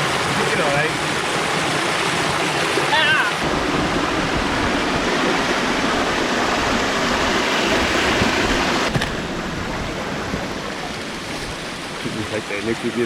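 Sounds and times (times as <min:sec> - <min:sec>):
water rushing down waterfall: 0:00.0 - 0:13.0.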